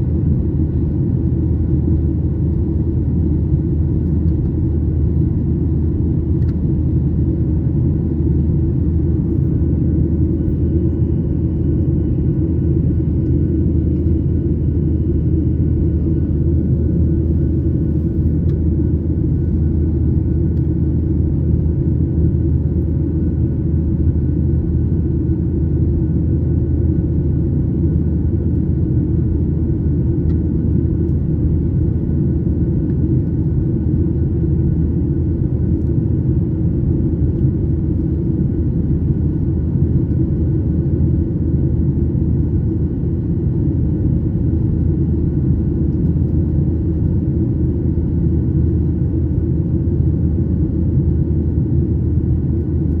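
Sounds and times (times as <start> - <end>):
faint steady hum: 0.0 - 53.0
jet engine and airflow rumble: 0.0 - 53.0.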